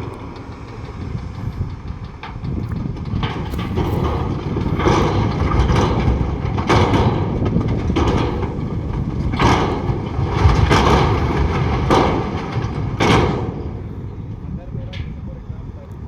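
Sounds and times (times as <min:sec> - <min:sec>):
rattling and scraping surges: 0:00.0 - 0:15.3
diesel machinery low rumble: 0:00.0 - 0:16.0.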